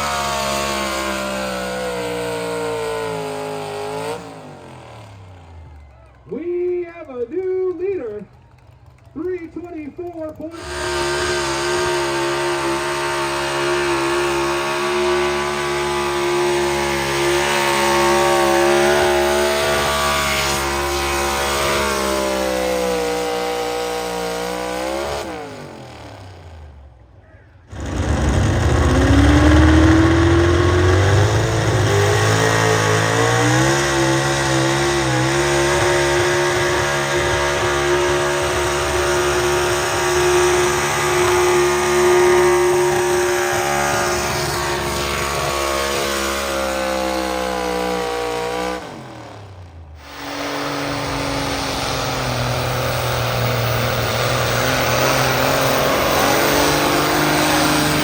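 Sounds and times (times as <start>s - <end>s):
engine revving under full load: 0.0s - 6.4s, 7.4s - 58.0s.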